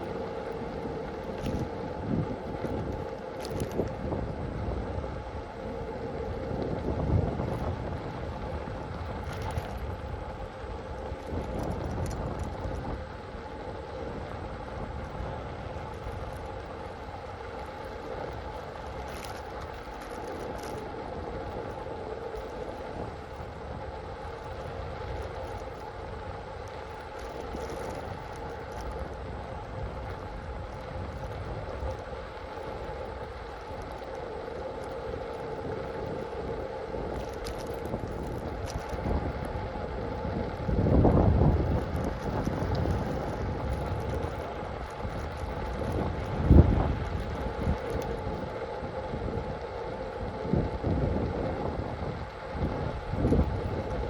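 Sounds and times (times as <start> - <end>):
vehicle engine humming: 0.0 - 54.0
wind on microphone: 0.0 - 54.0.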